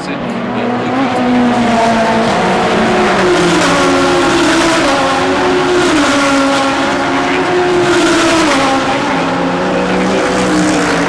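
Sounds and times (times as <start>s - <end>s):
race car engine: 0.0s - 11.0s.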